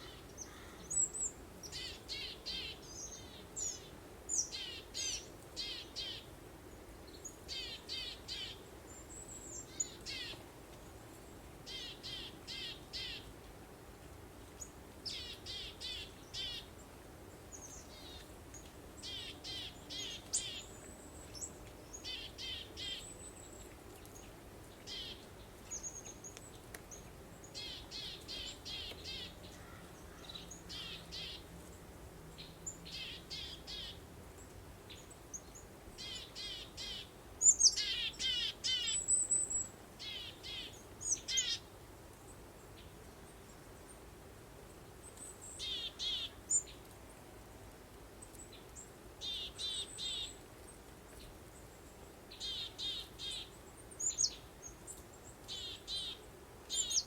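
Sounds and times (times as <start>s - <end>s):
songbirds singing: 0.0s - 6.3s, 7.0s - 10.4s, 14.5s - 44.0s, 44.6s - 47.2s, 48.2s - 57.0s
faint background hiss: 0.0s - 57.0s.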